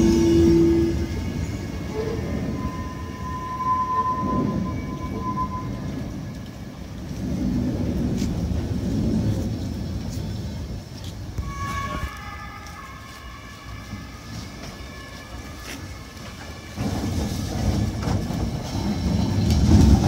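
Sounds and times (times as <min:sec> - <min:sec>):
tram wheels rumbling on rails: 0:00.0 - 0:20.0
tram wheels squealing: 0:00.0 - 0:20.0.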